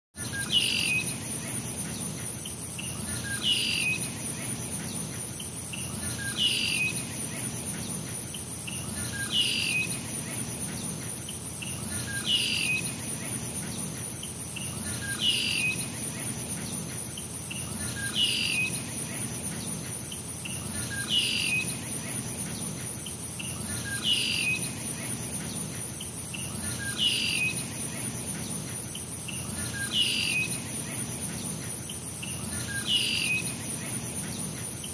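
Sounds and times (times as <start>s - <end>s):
insect trill: 0.2s - 34.9s.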